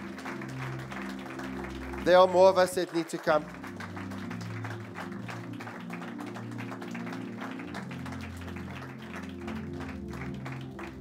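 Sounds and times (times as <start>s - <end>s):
soft instrumental worship music: 0.0s - 11.0s.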